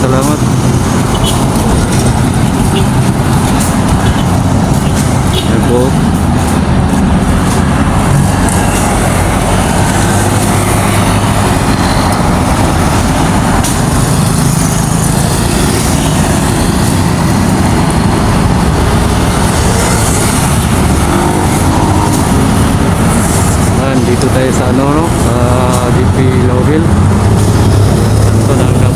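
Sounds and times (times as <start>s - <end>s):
road and wind noise: 0.0s - 28.9s
vehicle engine running: 0.0s - 28.9s.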